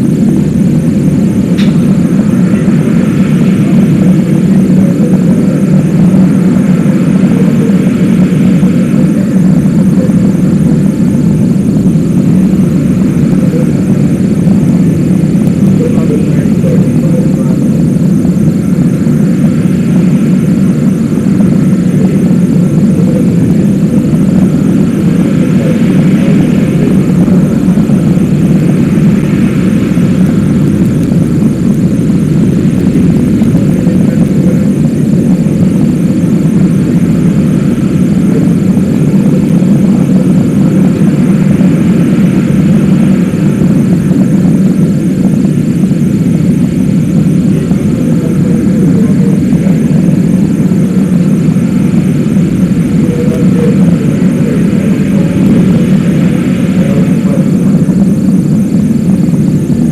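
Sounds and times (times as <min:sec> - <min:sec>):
distant rocket engine rumble: 0:00.0 - 0:59.9.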